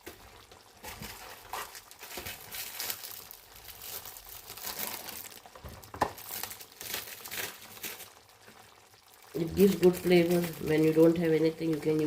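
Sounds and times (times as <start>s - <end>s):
wrapper crinkling and rustling: 0.3s - 12.0s.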